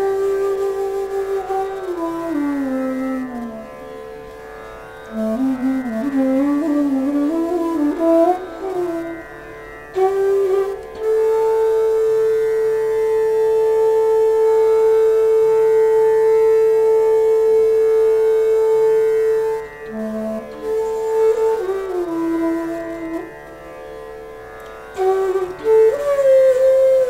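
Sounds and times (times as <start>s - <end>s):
bamboo flute melody: 0.0s - 4.4s, 5.0s - 24.0s, 24.9s - 27.0s.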